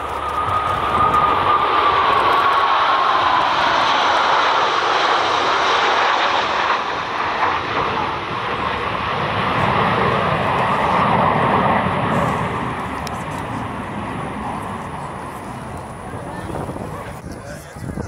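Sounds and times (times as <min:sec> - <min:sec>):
jet aircraft roar: 0:00.0 - 0:18.0.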